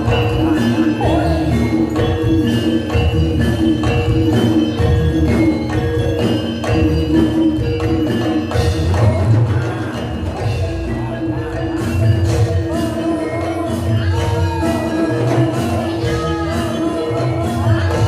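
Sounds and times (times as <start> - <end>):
ringing struck metal instruments: 0.0 - 18.0.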